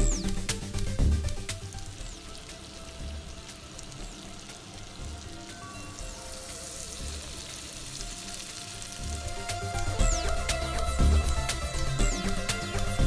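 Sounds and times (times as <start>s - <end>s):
butter sizzling in frying pan: 0.0s - 13.0s
quiet background music: 0.0s - 13.0s.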